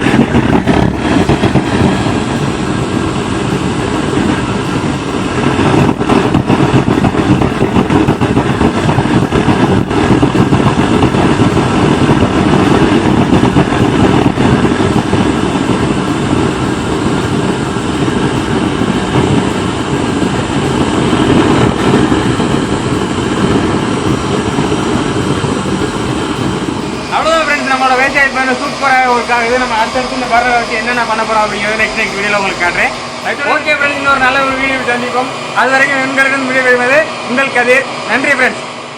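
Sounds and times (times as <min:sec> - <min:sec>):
oil burner rushing roar: 0:00.0 - 0:38.9.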